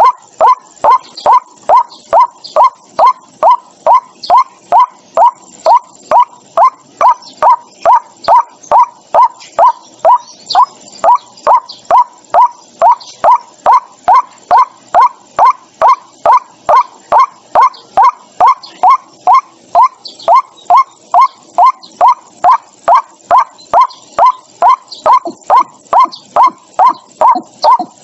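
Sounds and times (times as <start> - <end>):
waterhen calling: 0.0 - 28.0.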